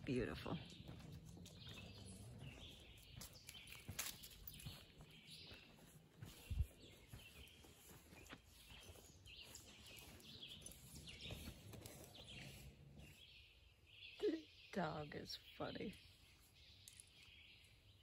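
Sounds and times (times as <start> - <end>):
faint birdsong chirps: 0.0 - 18.0.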